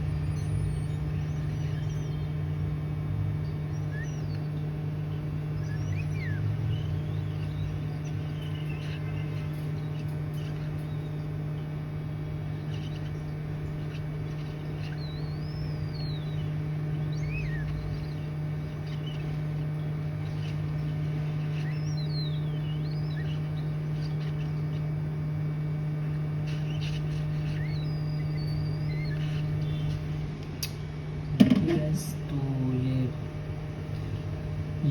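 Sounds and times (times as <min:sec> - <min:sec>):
faint bird chirps: 0:00.0 - 0:30.4
steady low hum: 0:00.0 - 0:34.9.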